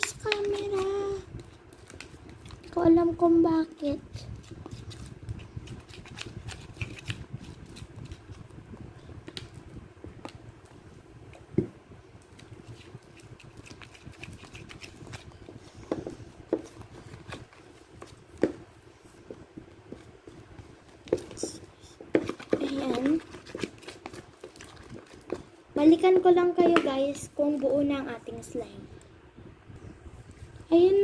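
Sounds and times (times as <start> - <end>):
slime squelching and scraping: 0.0 - 8.6, 12.2 - 28.8.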